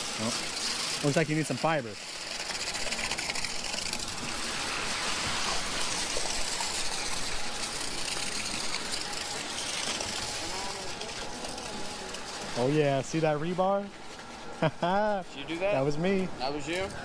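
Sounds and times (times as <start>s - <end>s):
wet concrete gushing from hose: 0.0s - 16.8s.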